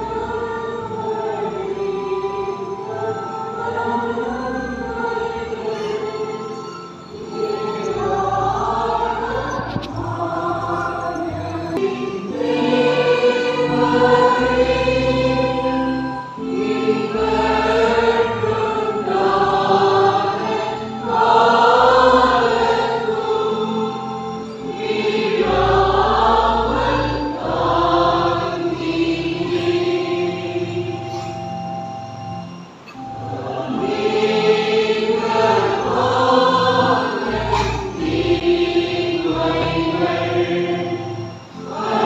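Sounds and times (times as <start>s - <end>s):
choir and congregation singing hymn: 0.0s - 42.0s.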